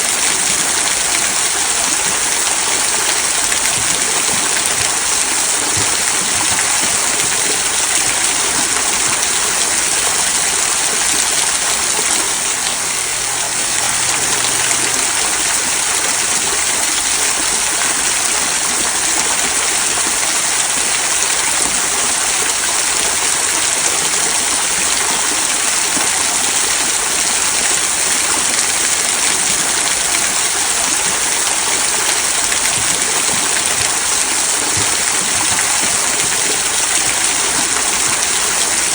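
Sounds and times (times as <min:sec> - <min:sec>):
waterfall trickling over stones: 0:00.0 - 0:38.9.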